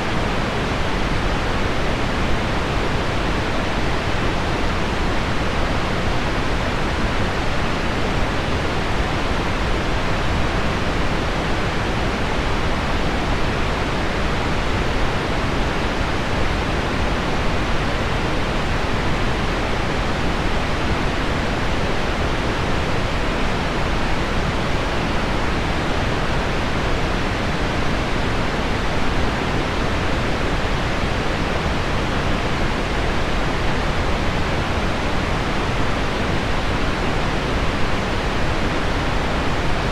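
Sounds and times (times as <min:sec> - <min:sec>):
pink noise: 0:00.0 - 0:39.9.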